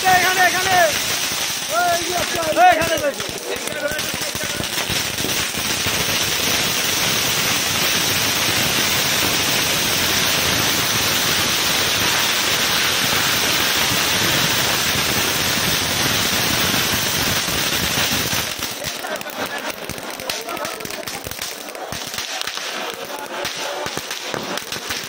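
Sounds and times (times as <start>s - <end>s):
fountain fireworks hissing: 0.0s - 25.0s.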